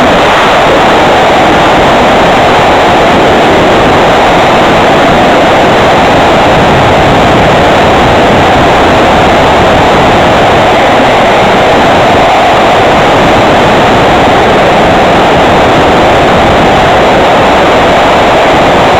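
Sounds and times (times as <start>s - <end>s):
wind rushing over camera: 0.0s - 18.9s.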